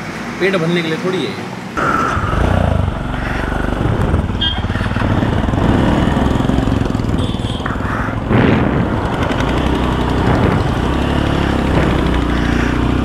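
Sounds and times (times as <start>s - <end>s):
road traffic passing: 0.0s - 13.0s
motorcycle engine idling: 2.3s - 13.0s.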